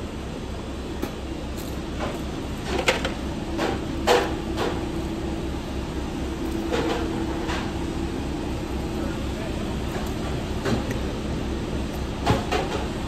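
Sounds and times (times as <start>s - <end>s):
low hum of kitchen equipment: 0.0s - 13.0s.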